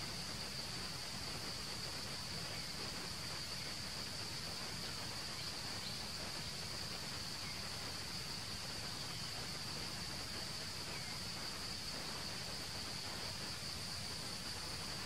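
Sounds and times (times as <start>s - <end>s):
constant hiss: 0.0s - 15.0s.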